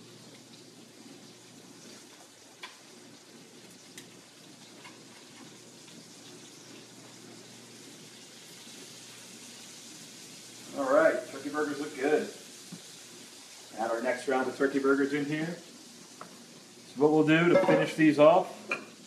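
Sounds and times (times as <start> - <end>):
patties sizzling in a skillet: 0.0 - 19.0.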